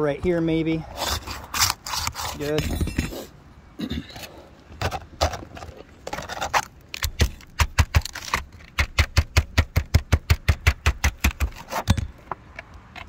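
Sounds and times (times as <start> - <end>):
knocks and scrapes on aluminum: 1.0 - 3.3, 4.1 - 12.4.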